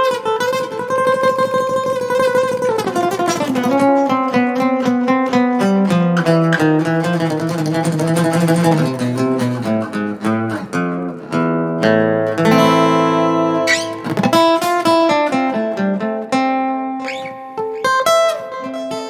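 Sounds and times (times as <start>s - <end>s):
electric guitar melody and chords: 0.0s - 19.0s.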